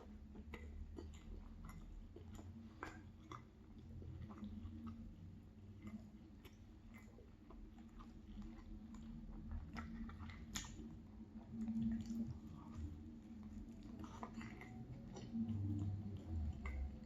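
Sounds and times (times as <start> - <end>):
person chewing food: 0.0 - 17.0
wet mouth clicks: 0.0 - 17.0.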